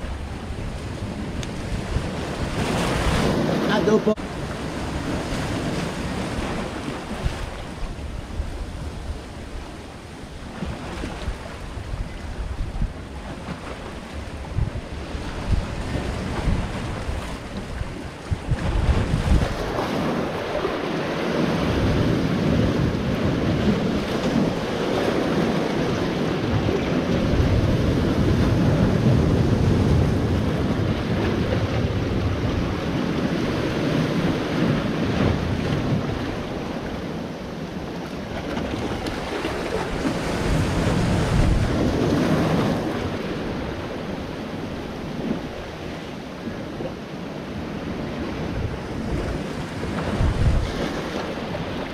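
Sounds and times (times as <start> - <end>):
sea waves breaking over rocks: 0.0 - 51.9
wind buffeting microphone: 0.0 - 51.9.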